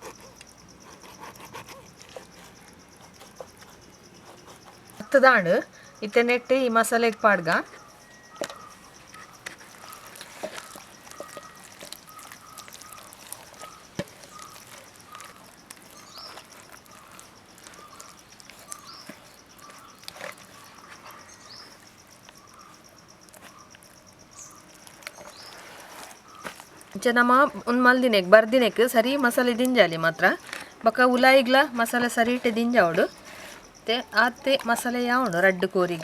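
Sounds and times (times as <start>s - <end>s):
faint bird chirping: 0.0s - 36.0s.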